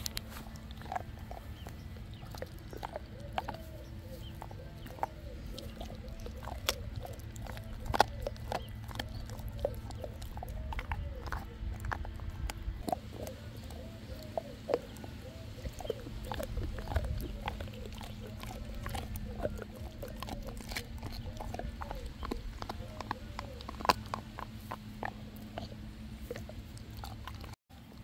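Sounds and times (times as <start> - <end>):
dog chewing bones: 0.0 - 28.0.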